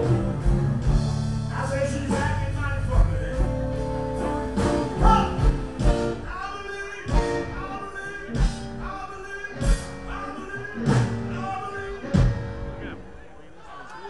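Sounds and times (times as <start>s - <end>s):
live blues-rock band: 0.0s - 13.1s.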